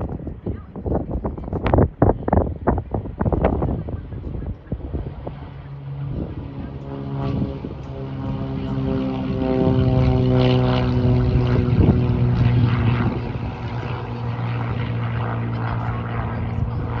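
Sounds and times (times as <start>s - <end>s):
propeller airplane engine: 0.0s - 17.0s.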